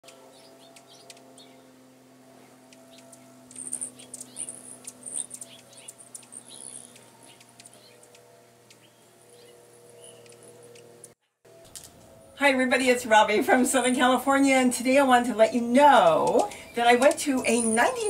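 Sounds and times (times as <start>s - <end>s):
hummingbirds chipping and squeaking: 0.1s - 12.4s, 13.8s - 18.0s.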